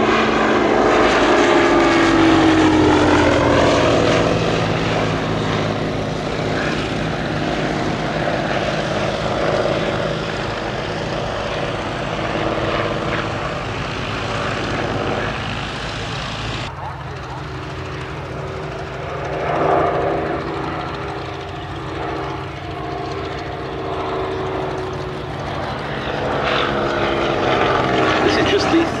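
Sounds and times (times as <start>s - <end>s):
propeller plane engine passing: 0.0s - 29.0s.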